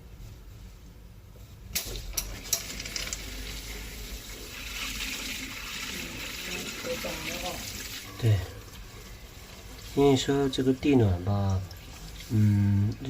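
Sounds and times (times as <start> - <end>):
water running with hiss: 2.2 - 13.0.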